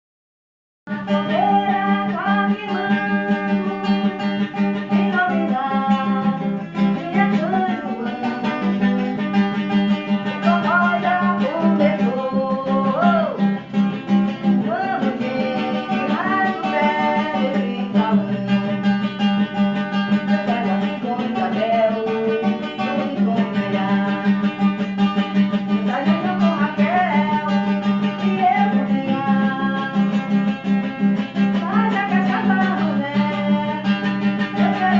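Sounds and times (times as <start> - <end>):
sliding guitar melody: 0.9 - 34.9
strummed acoustic guitar: 0.9 - 34.9.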